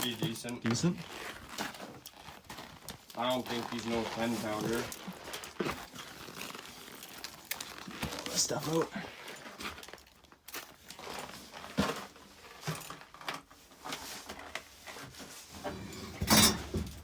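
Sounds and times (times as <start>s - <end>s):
clothing and gear rustling: 0.0s - 17.0s.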